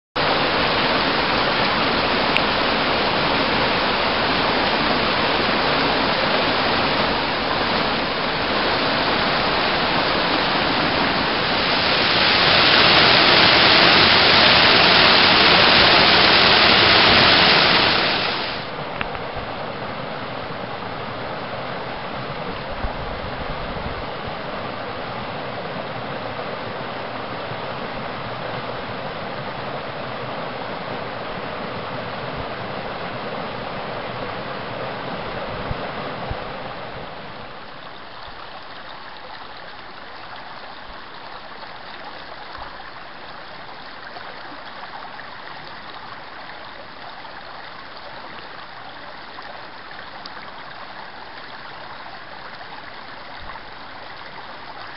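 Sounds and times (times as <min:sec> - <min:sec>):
creek water rushing over boulders: 0:00.2 - 0:54.9.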